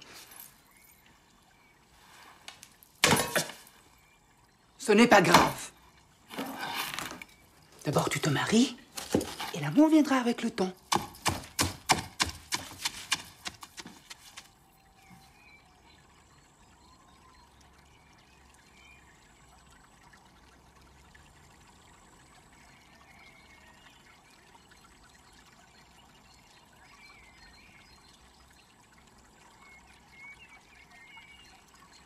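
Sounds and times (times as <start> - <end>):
small fountain trickling and splashing: 0.0 - 32.0.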